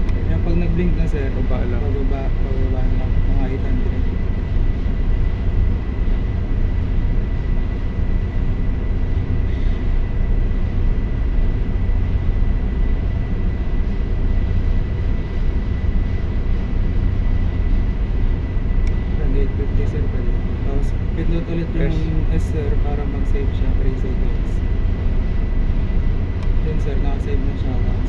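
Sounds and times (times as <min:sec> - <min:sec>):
diesel generator engine drone: 0:00.0 - 0:28.0
steady high whine: 0:00.0 - 0:28.0.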